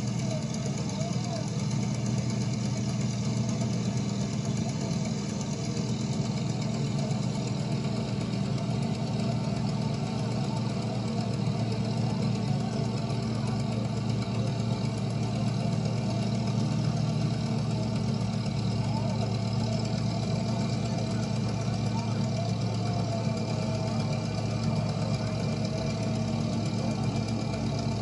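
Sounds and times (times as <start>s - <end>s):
pickup engine running at low speed: 0.0s - 28.0s.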